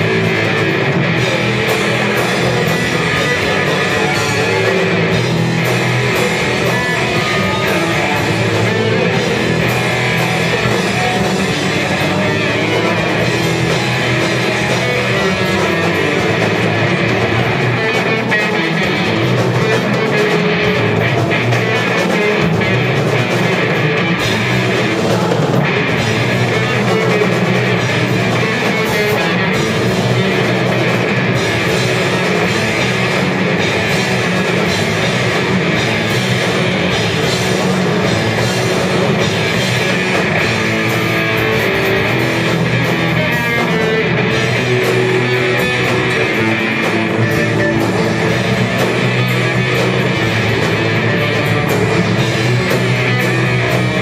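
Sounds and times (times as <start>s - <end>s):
drum kit: 0.0s - 54.0s
electric bass: 0.0s - 54.0s
electric guitar: 0.0s - 54.0s
rock band playing: 0.0s - 54.0s.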